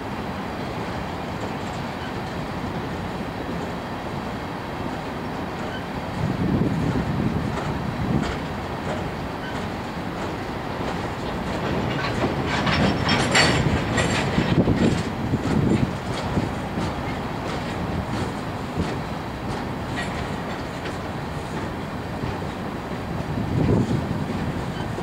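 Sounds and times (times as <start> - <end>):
train wheels rumbling: 0.0 - 25.0
wheels clacking over rail joints: 4.9 - 25.0.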